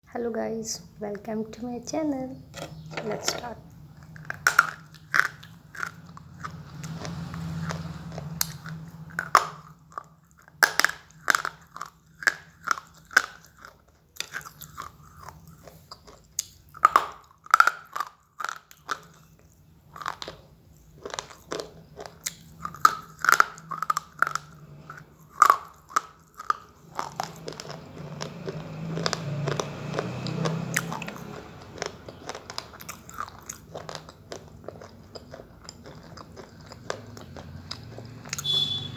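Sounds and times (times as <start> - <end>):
slate pencils crunching: 2.5 - 38.5
chewing close to microphone: 3.9 - 38.5.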